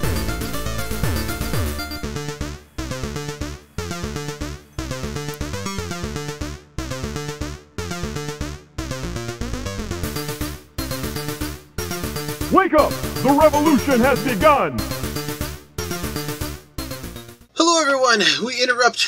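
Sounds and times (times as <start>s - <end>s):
electronic music with synthesizer: 0.0s - 17.5s.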